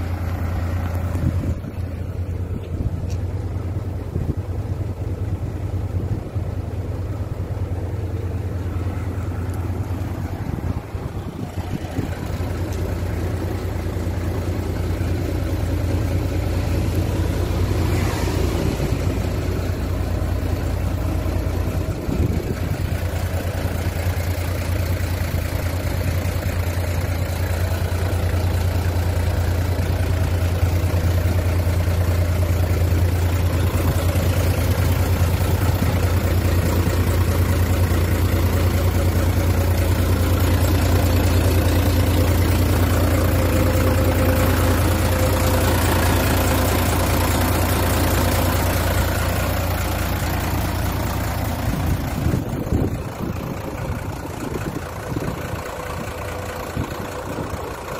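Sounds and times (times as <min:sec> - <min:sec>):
diesel truck engine idling: 0:00.0 - 0:57.9.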